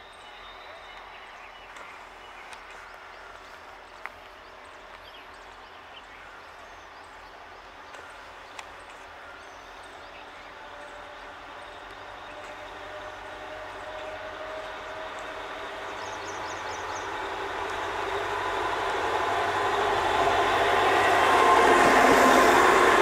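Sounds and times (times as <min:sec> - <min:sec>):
low train engine drone: 0:00.0 - 0:23.0.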